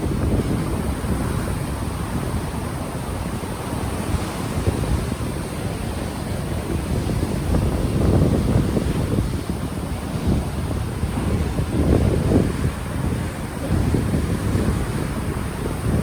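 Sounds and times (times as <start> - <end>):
ocean surf washing in: 0.0 - 16.0
wind buffeting microphone: 0.0 - 16.0.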